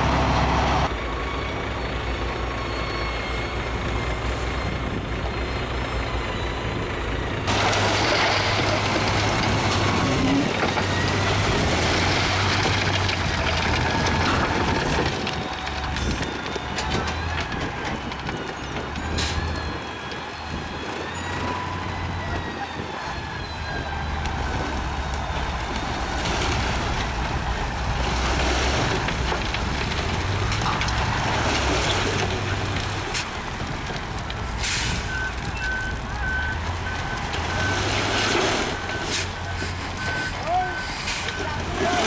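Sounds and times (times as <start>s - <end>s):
diesel trucks rumbling: 0.0s - 42.0s
reversing beeper: 0.1s - 18.0s, 18.7s - 27.8s, 34.5s - 42.0s.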